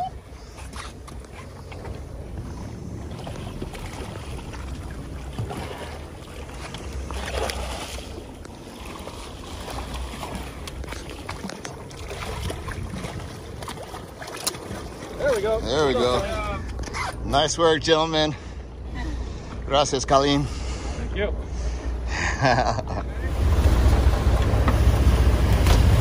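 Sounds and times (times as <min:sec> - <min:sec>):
water wash: 0:00.0 - 0:20.5, 0:21.2 - 0:26.0
boat engine running: 0:00.0 - 0:26.0.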